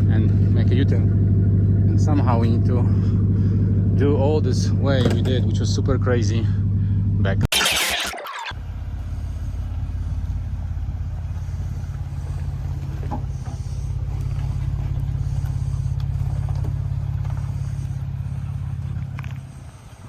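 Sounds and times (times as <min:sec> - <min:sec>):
truck engine running at low revs: 0:00.0 - 0:07.4, 0:08.5 - 0:20.0.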